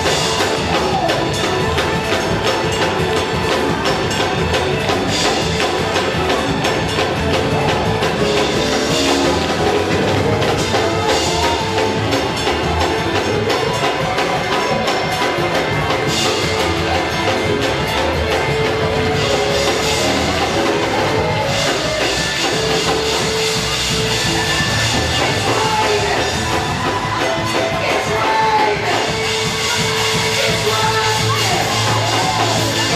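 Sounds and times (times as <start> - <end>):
music with drum and tambourine: 0.0 - 32.9.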